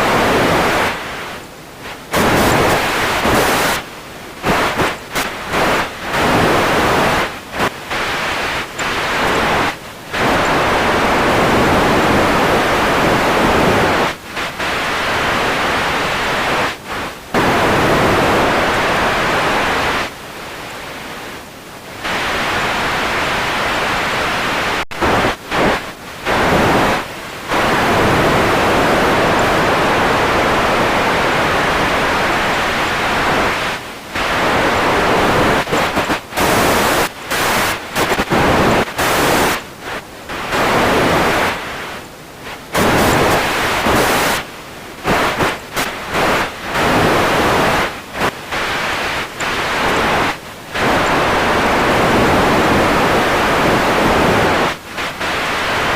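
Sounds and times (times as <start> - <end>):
radio static hiss: 0.0 - 55.9.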